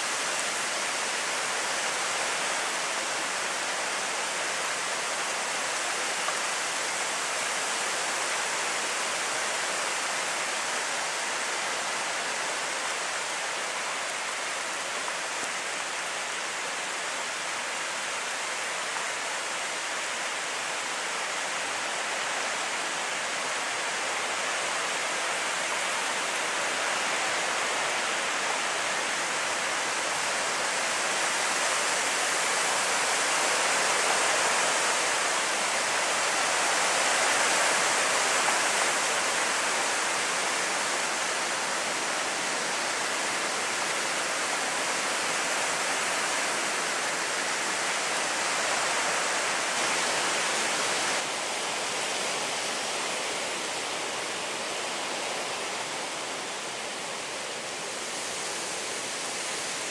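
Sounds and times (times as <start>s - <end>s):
heavy rain hissing on roof: 0.0s - 59.9s.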